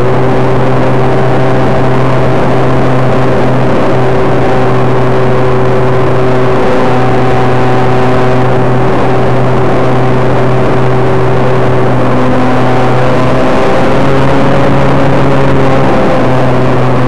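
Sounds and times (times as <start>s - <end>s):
model airplane motor and propeller: 0.0s - 17.0s.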